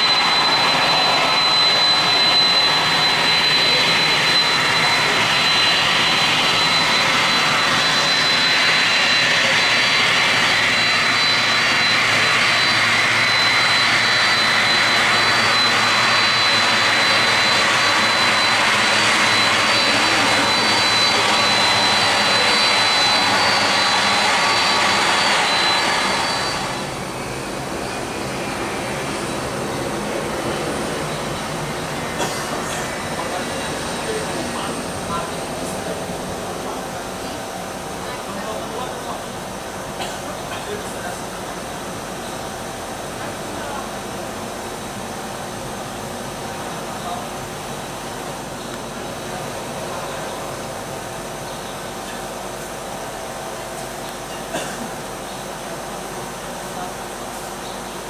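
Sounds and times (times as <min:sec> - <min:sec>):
high engine whine: 0:00.0 - 0:58.0
jet engines running: 0:00.0 - 0:58.0.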